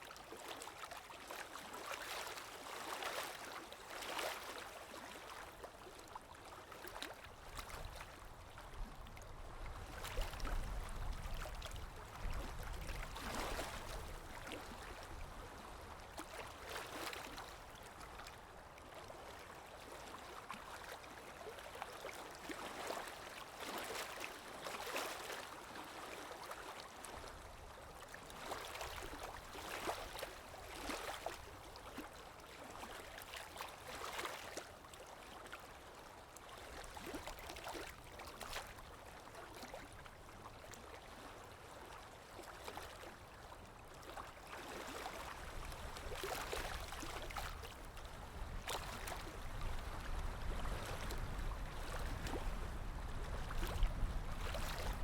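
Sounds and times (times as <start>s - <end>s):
water lapping: 0.1s - 55.0s.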